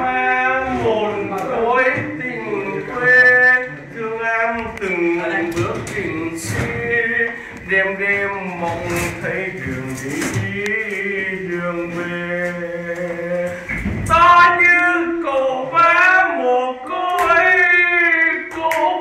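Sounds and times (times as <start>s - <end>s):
person singing long notes: 0.0s - 19.0s.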